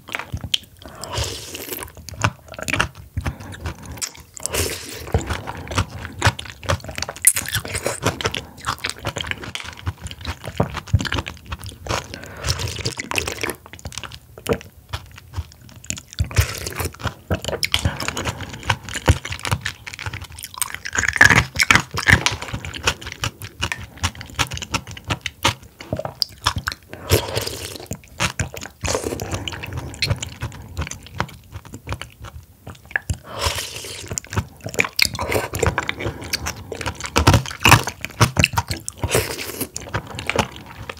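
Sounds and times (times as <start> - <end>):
chewing with mouth clicks: 0.0 - 40.9.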